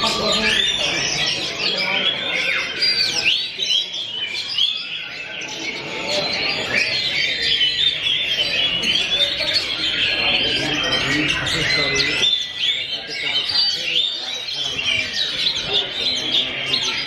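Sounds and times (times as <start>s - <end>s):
magpie-robin singing: 0.0s - 17.0s
other songbirds chirping: 0.0s - 17.0s.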